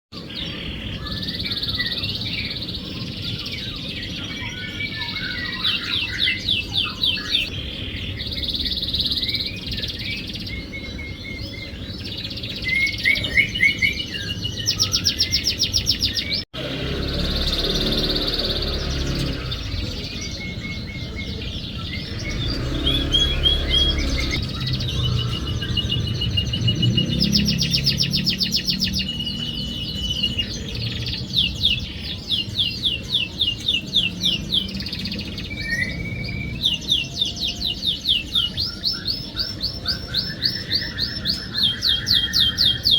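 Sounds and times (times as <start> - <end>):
canary singing trills: 0.2 - 42.9.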